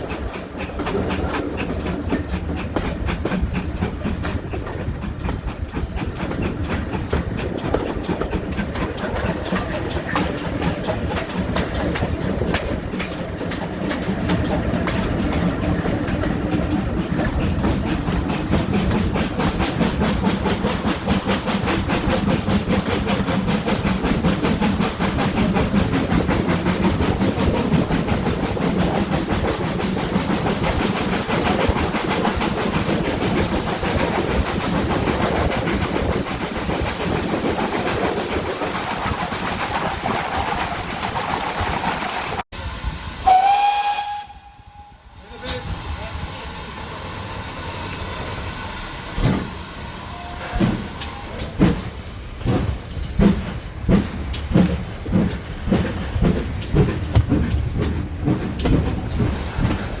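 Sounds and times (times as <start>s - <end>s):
train wheels clattering on rails: 0.0s - 42.5s, 43.2s - 60.0s.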